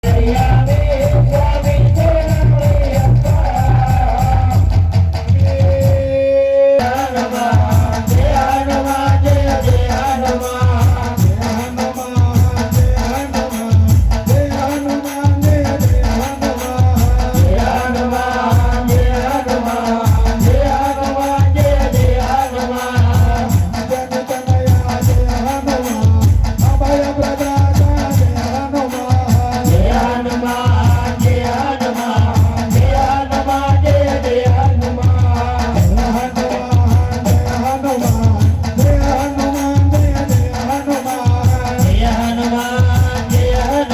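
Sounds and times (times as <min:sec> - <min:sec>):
drum beat: 0:00.0 - 0:43.9.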